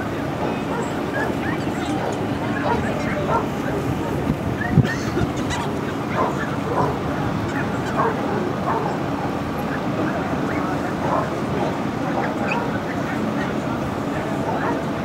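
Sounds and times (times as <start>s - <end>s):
dogs barking and yipping: 0.4s - 9.8s, 11.0s - 13.1s, 14.3s - 15.0s.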